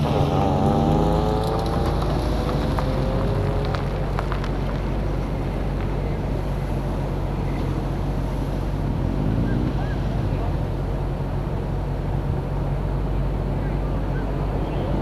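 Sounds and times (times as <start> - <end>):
car engine idling: 0.0 - 15.0
faint whine: 0.0 - 15.0.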